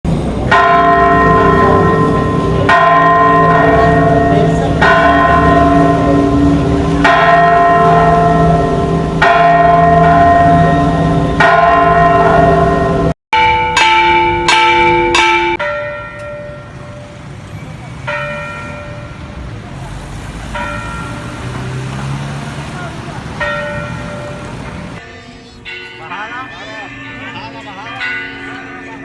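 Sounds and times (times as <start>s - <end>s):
church bell ringing slowly: 0.4s - 17.2s, 18.0s - 19.3s, 20.5s - 22.2s, 23.3s - 29.0s.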